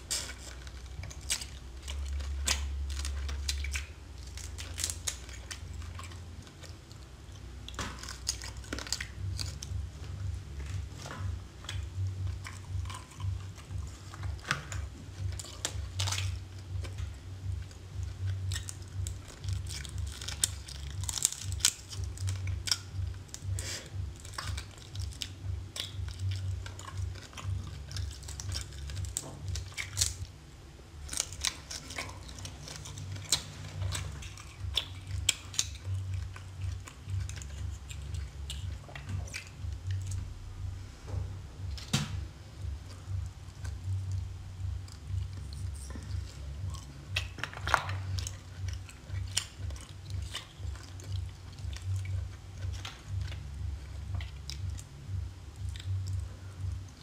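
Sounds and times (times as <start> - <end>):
chewing and biting seafood: 0.0 - 30.2, 31.1 - 40.3, 42.6 - 57.0
steady low hum: 0.0 - 57.0.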